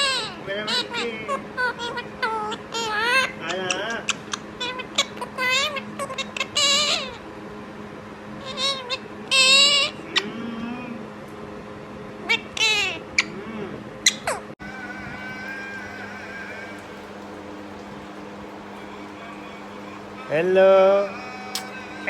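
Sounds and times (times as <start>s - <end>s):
parrot squawking and screeching: 0.0s - 7.3s, 8.4s - 10.3s, 12.2s - 13.4s, 14.0s - 22.0s.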